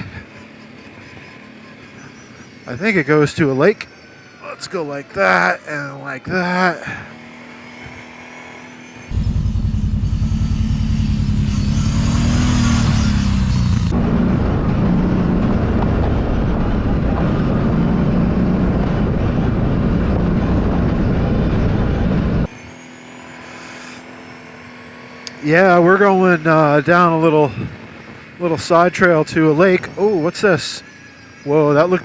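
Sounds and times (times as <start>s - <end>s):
atv engine running under throttle: 0.0s - 32.0s.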